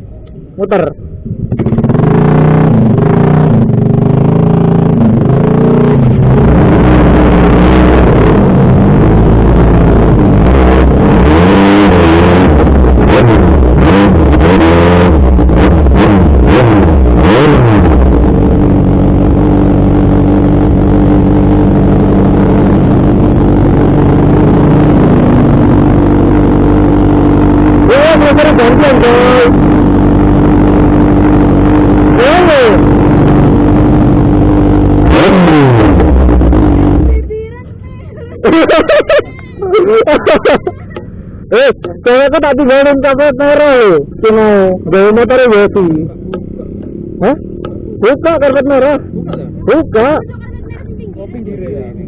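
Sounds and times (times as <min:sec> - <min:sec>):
motorcycle engine revving and idling: 0:00.0 - 0:52.0.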